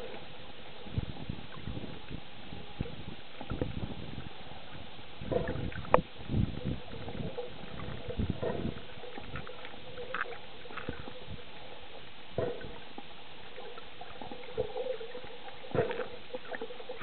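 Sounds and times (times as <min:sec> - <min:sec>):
underwater water rumbling: 0:00.0 - 0:17.0.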